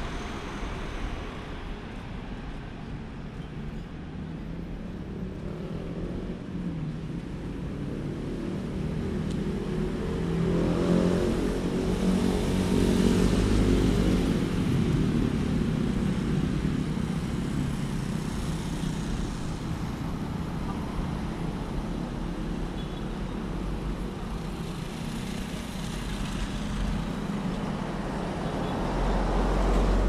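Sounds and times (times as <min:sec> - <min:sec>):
steady traffic noise: 0:00.0 - 0:30.0.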